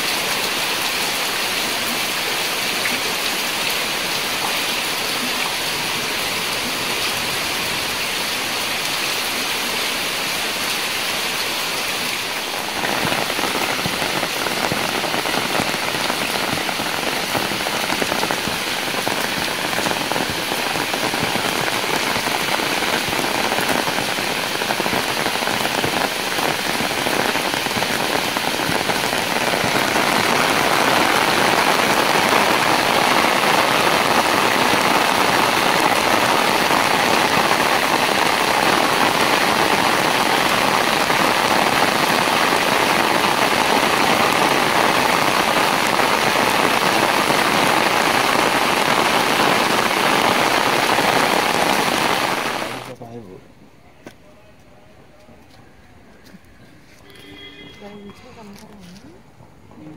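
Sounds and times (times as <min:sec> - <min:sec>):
heavy rain on concrete: 0:00.0 - 0:53.0, 0:57.0 - 0:59.9.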